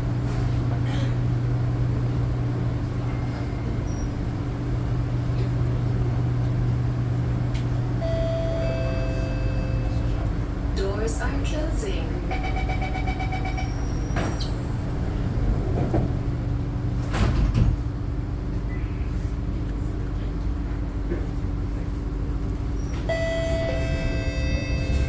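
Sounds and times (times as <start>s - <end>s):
sliding train doors closing: 0.0s - 12.0s, 13.0s - 19.3s, 21.0s - 25.0s
steady train hum: 0.0s - 25.0s.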